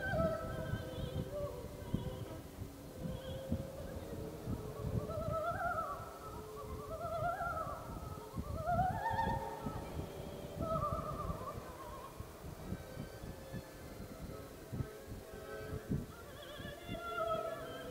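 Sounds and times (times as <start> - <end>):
wind and road noise rumble: 0.0 - 17.9.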